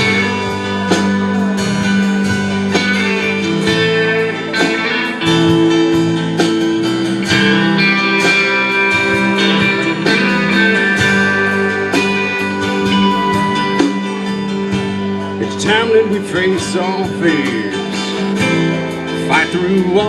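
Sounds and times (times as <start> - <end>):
live band with guitars: 0.0 - 20.0.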